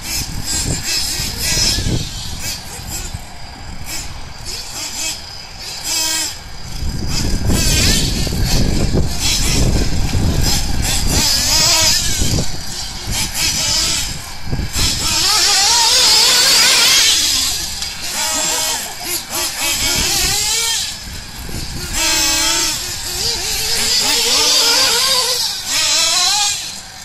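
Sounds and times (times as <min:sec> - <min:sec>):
high-pitched engine whine: 0:00.0 - 0:27.0
nitro engines revving: 0:00.0 - 0:27.0.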